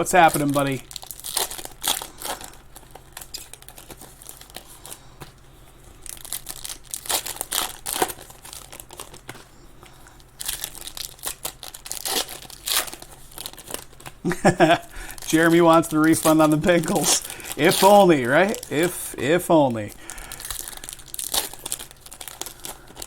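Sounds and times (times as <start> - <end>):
card pack wrappers crinkling: 0.0 - 23.0.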